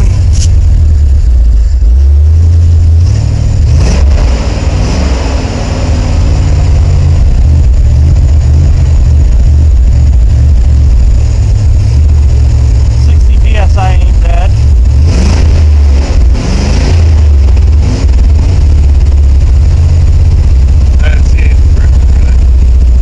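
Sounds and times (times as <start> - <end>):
pickup truck engine running: 0.0 - 23.0.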